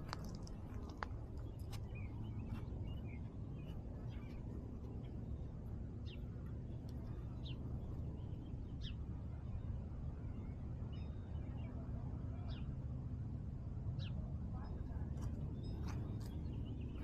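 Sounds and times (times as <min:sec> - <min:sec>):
small birds chirping: 0:00.0 - 0:12.9, 0:13.9 - 0:17.0
steady low rumble: 0:00.0 - 0:17.0.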